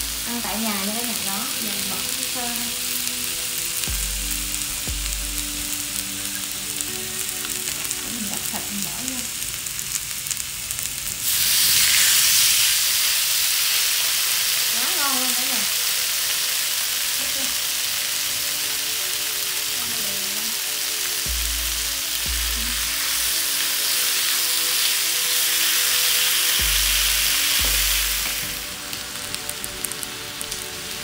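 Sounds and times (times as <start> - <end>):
food sizzling on griddle: 0.0 - 31.0.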